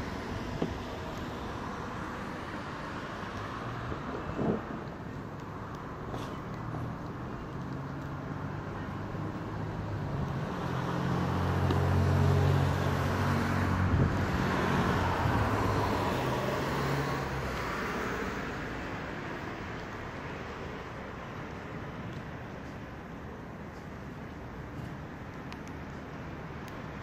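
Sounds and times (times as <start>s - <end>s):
road vehicle passing by: 0.0s - 21.7s.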